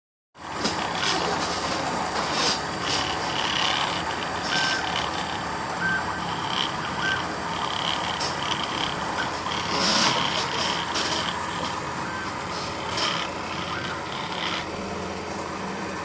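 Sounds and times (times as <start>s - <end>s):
motors whining: 0.4s - 16.0s
steady mechanical noise: 0.4s - 16.0s.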